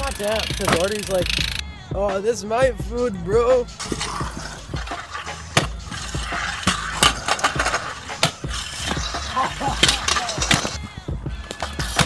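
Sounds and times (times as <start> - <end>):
scooter deck clacking on concrete: 0.0 - 1.6, 3.8 - 12.0
scooter wheels rolling on concrete: 0.0 - 1.6, 3.0 - 12.0.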